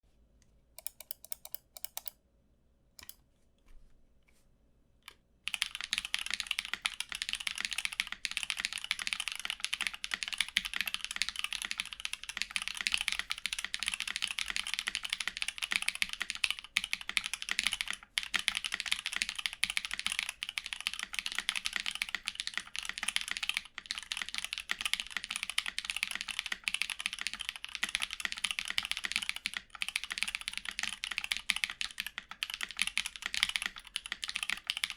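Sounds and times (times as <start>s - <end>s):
mechanical keyboard typing: 0.8s - 2.2s, 5.5s - 34.9s.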